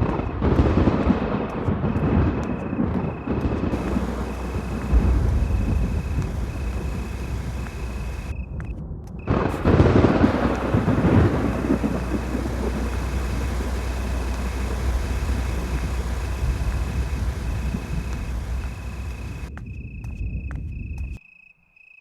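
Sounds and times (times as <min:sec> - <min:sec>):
loud thunder clap: 0:00.0 - 0:08.3, 0:09.2 - 0:19.5
low storm rumble: 0:00.0 - 0:19.5.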